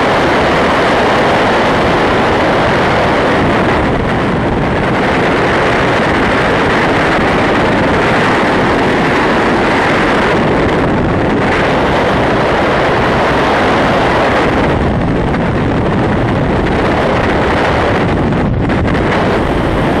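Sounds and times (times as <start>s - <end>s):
wind rushing on microphone: 0.0s - 20.0s.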